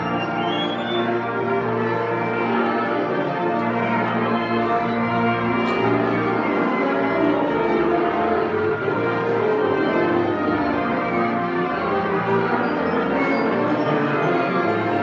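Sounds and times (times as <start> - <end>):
concert band sustained chords: 0.0 - 15.0.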